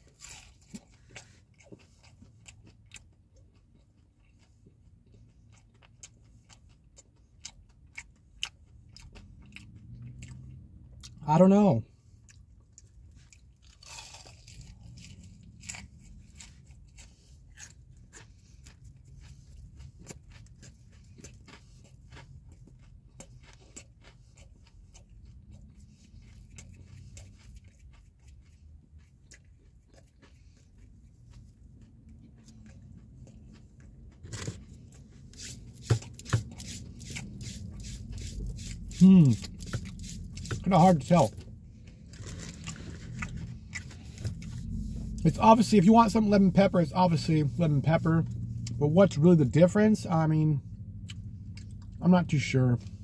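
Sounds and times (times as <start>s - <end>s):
person chewing crunchy food: 0.0s - 49.7s, 50.6s - 53.0s
low steady hum: 0.0s - 53.0s.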